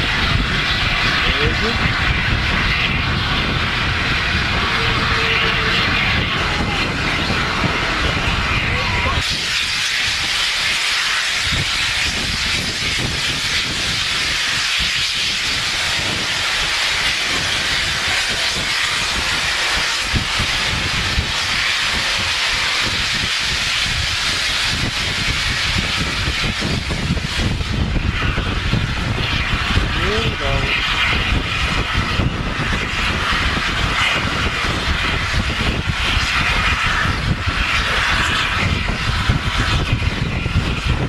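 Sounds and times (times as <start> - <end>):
steam locomotive blowing off steam: 0.0 - 41.0.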